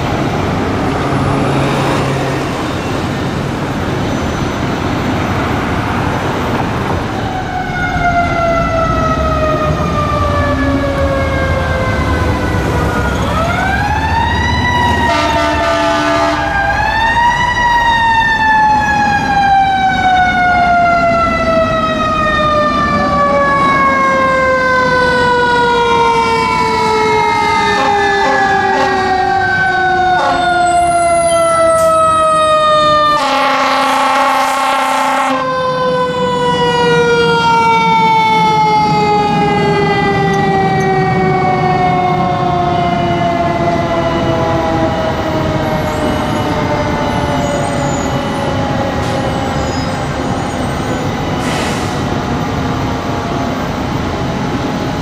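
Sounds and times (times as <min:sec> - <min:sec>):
city traffic rumble: 0:00.0 - 0:55.0
heavy vehicle engines: 0:00.0 - 0:55.0
mechanical siren wailing: 0:07.0 - 0:51.4.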